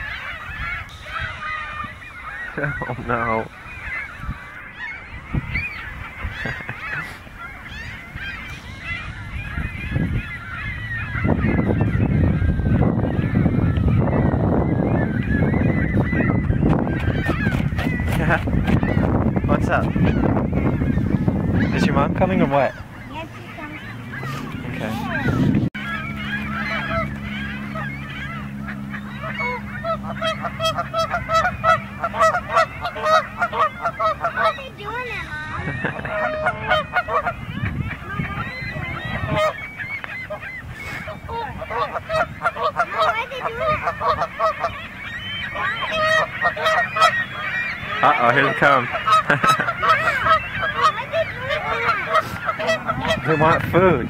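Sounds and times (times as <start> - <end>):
geese honking: 0.0 - 54.0.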